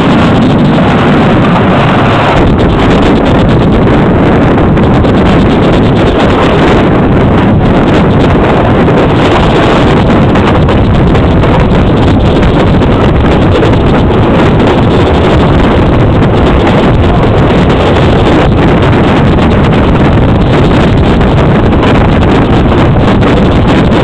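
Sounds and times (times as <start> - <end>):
train running noise: 0.0 - 24.0
wind noise on microphone: 0.0 - 24.0.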